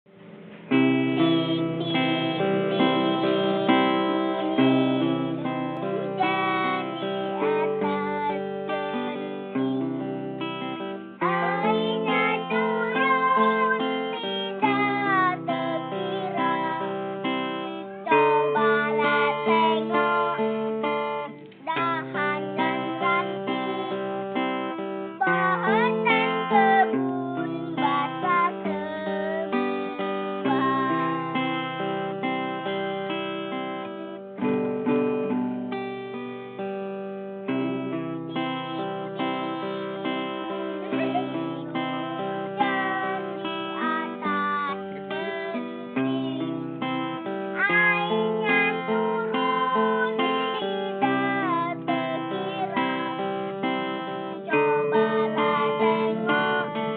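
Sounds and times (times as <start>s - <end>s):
acoustic guitar strumming: 0.1s - 56.9s
child singing: 0.7s - 31.8s, 38.2s - 56.9s.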